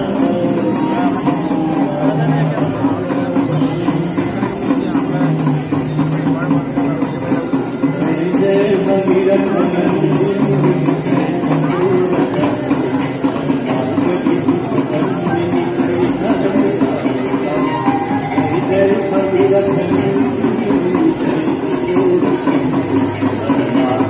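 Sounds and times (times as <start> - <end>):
bells ringing: 0.0 - 24.0.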